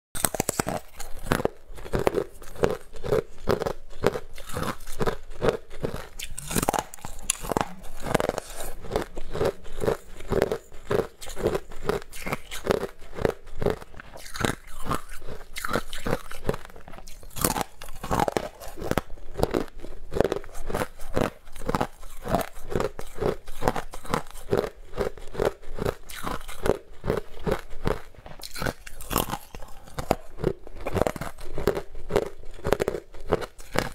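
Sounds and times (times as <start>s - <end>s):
crunching frozen ice bars: 0.2s - 33.9s.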